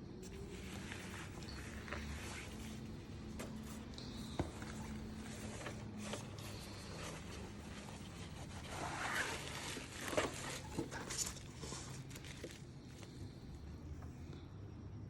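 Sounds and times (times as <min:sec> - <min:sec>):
faint low hum: 0:00.0 - 0:15.0
packaging rustling and scraping: 0:00.2 - 0:13.4.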